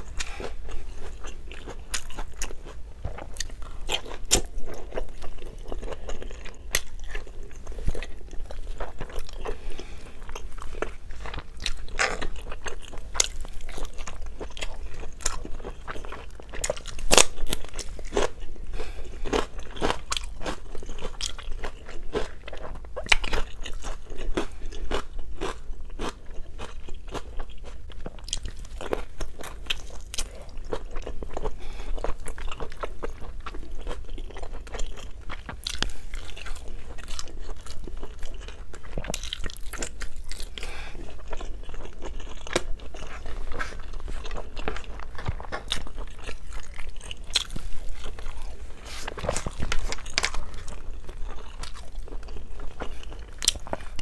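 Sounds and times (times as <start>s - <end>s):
close chewing with mouth clicks: 0.0s - 54.0s
loud crunch of vegetable bite: 0.0s - 54.0s.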